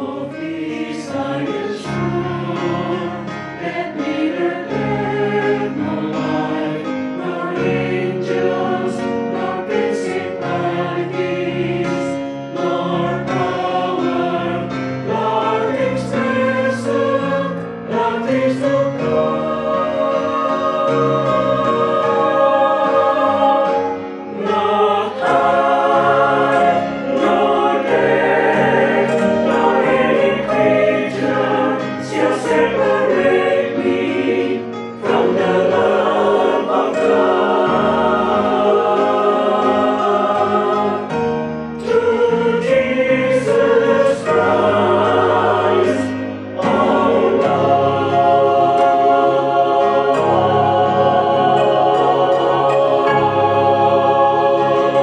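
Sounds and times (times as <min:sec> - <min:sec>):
mixed choir singing in harmony: 0:00.0 - 0:55.0.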